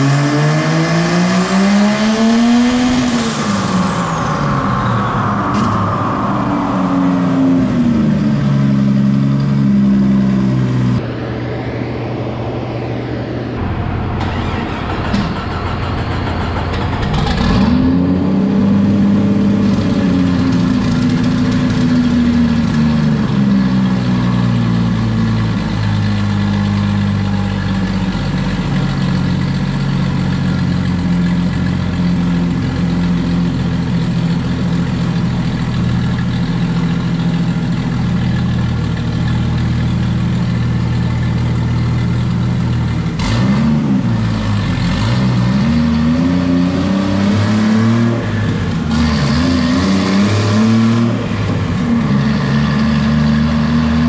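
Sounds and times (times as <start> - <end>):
car engine running and revving: 0.0 - 11.1, 13.6 - 54.0.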